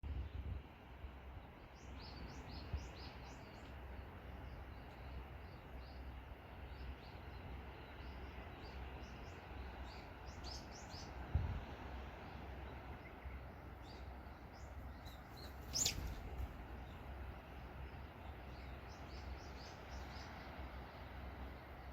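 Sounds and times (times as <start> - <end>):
sea waves: 0.6 - 21.9
small birds chirping: 1.4 - 21.9.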